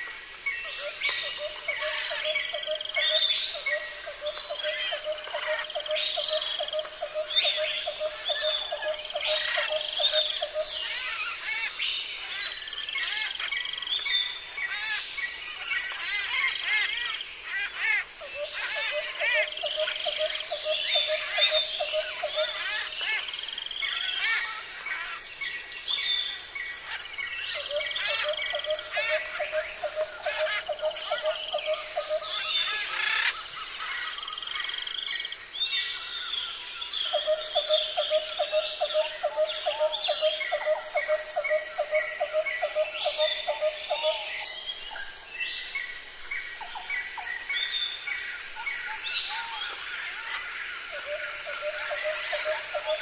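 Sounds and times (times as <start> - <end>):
birds chirping and calling: 0.0 - 53.0
high insect drone: 0.0 - 53.0.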